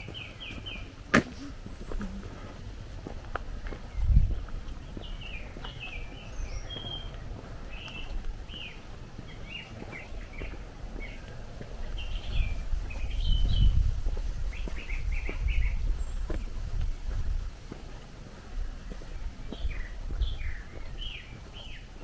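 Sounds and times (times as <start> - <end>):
footsteps on gravel: 0.0 - 22.0
songbirds chirping: 0.0 - 22.0.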